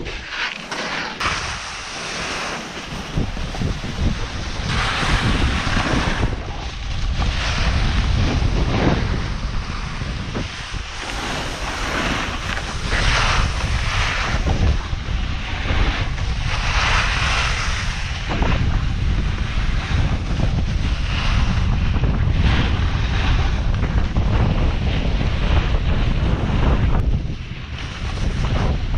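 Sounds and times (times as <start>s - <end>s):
wind buffeting microphone: 0.0s - 0.4s, 1.2s - 28.9s
snowboard scraping on snow: 0.0s - 28.9s.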